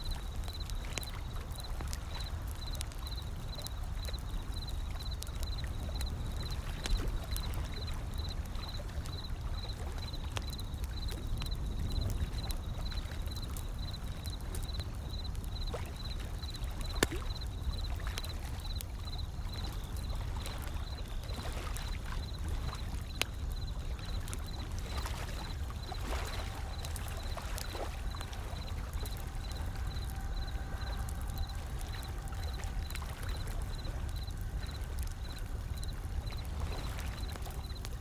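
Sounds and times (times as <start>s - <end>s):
ocean waves: 0.0s - 38.0s
wood fire crackling and popping: 0.0s - 38.0s.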